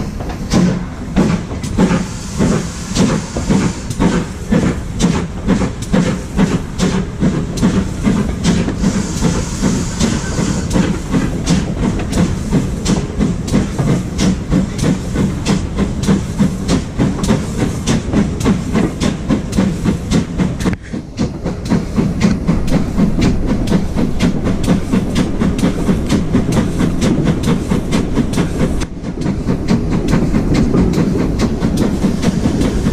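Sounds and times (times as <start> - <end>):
train wheels on rails: 0.0 - 32.9.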